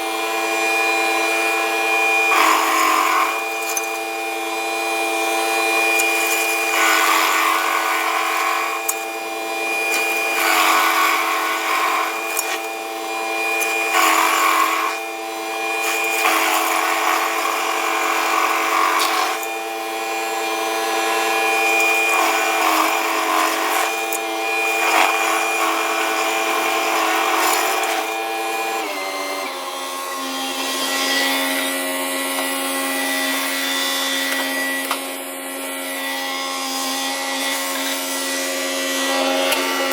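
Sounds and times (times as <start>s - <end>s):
stump grinder grinding: 0.0s - 36.1s, 37.1s - 39.9s.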